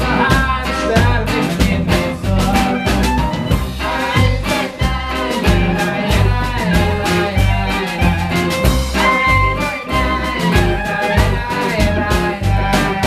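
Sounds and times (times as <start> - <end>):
band playing instrumental: 0.0 - 13.0
bass notes: 0.0 - 13.0
drum hits: 0.0 - 13.0.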